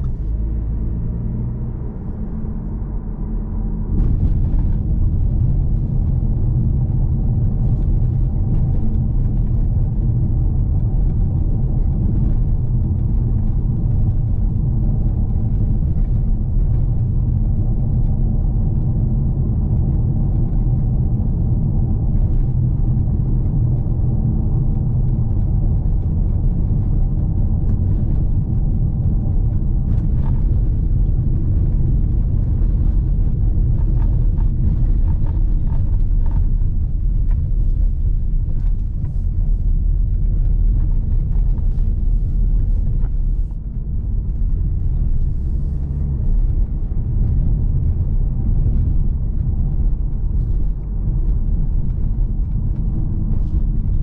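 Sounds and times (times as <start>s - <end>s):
car engine hum: 0.0s - 54.0s
tyre and road rumble: 0.0s - 54.0s.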